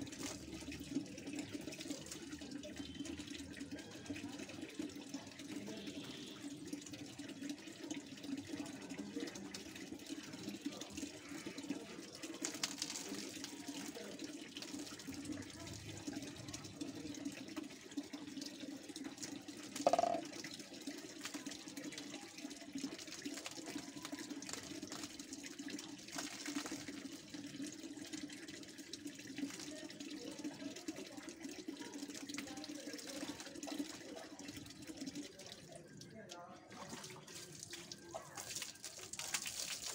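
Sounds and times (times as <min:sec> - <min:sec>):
water splashing and pouring: 0:00.0 - 0:39.9.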